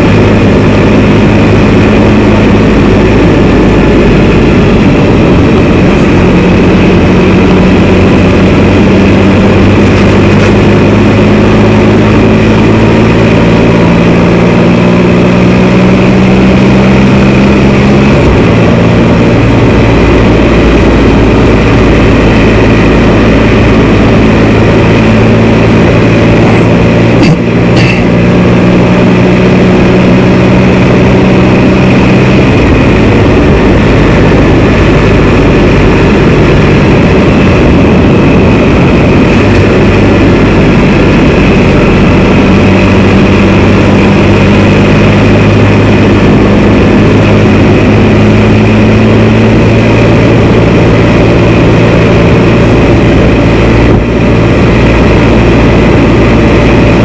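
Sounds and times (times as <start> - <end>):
motorcycle engine running: 0.0 - 57.0
wind rush: 0.0 - 57.0.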